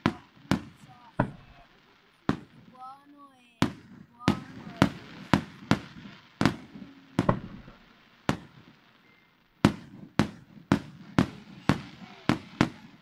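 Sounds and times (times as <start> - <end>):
firework shells bursting: 0.0 - 2.8, 3.5 - 13.0.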